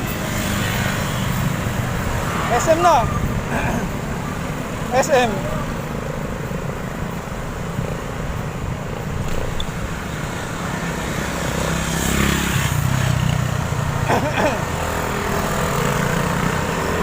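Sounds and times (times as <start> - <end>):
road traffic engine rumble: 0.0 - 17.0.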